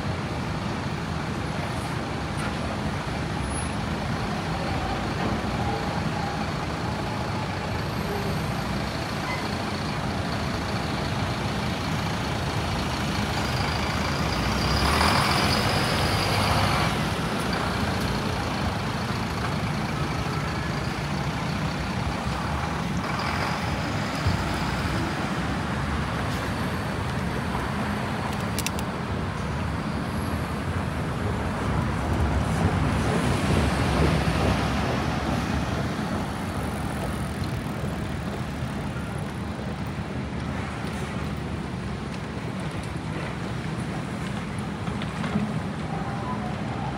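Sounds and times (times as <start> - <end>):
city street traffic: 0.0 - 46.9.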